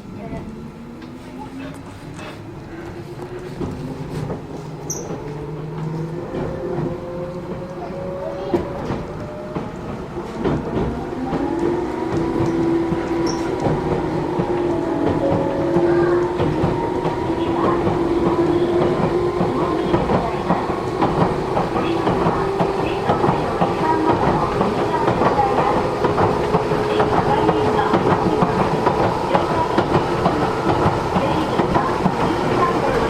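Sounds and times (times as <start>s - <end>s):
train rumble with humming tone: 0.0s - 33.0s
wheels clicking on track: 1.0s - 33.0s.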